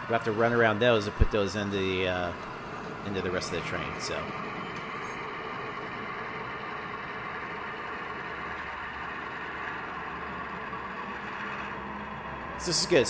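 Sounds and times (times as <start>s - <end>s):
model locomotive engine sound: 0.0s - 13.0s.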